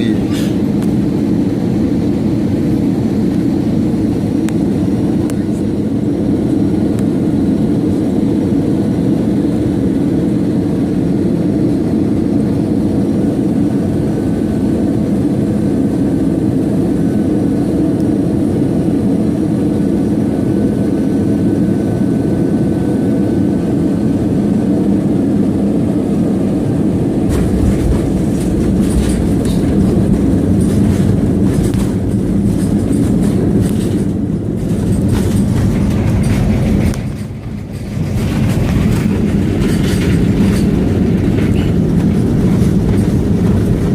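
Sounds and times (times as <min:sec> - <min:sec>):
airliner engine roar: 0:00.0 - 0:43.9
wheels rumbling on runway: 0:00.0 - 0:43.9.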